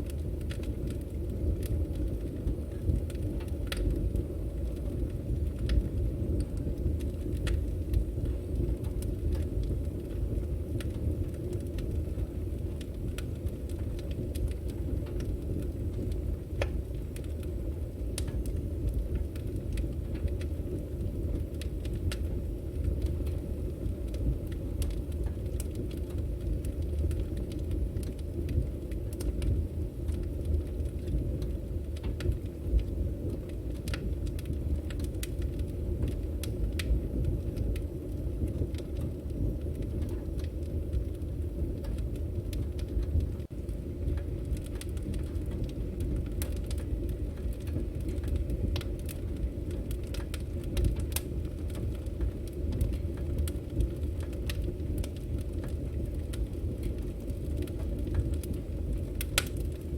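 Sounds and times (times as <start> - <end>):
firewood crackling and popping: 0.0 - 59.9
low rush of flames: 0.0 - 59.9.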